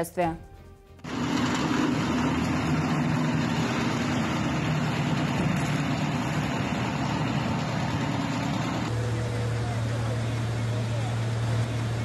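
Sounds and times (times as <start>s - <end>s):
engine rumble: 1.0s - 12.0s
outdoor noise: 1.0s - 12.0s.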